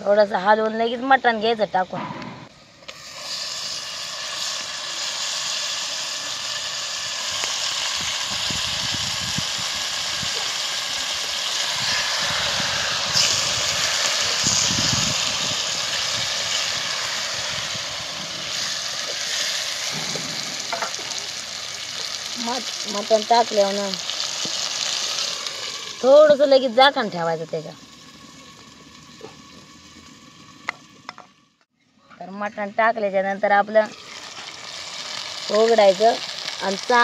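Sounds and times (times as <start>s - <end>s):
meat sizzling in hot oil: 2.8s - 31.5s, 33.8s - 37.0s.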